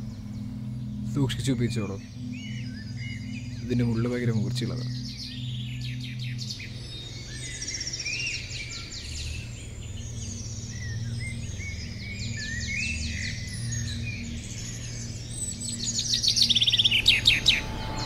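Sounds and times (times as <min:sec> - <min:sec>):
birds chirping and trilling: 0:00.0 - 0:18.0
low steady hum: 0:00.0 - 0:18.0.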